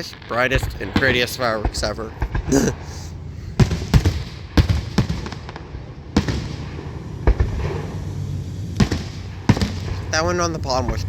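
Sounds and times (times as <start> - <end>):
fireworks booming: 0.0 - 11.0
low rumble: 0.1 - 11.0.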